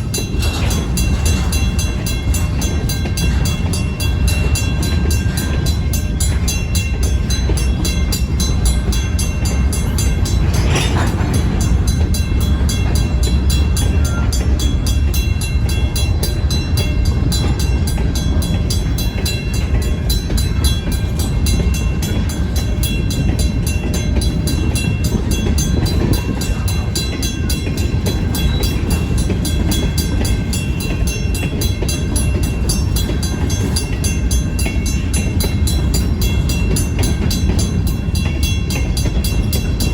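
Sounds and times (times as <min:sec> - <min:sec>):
crossing bell ringing: 0:00.0 - 0:39.9
rail cars rolling: 0:00.0 - 0:39.9.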